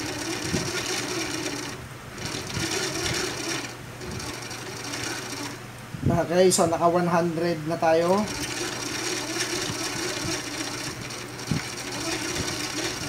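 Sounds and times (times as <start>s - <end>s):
coil winding machine whirring: 0.0s - 5.6s, 7.7s - 13.0s.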